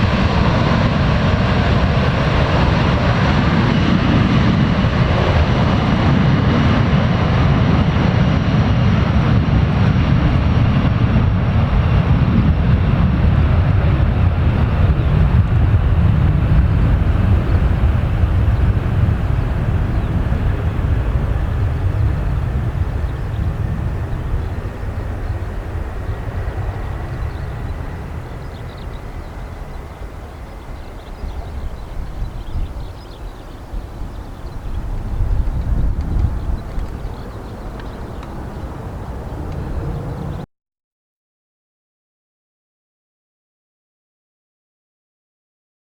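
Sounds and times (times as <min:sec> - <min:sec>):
jet engines rumbling: 0:00.0 - 0:40.5.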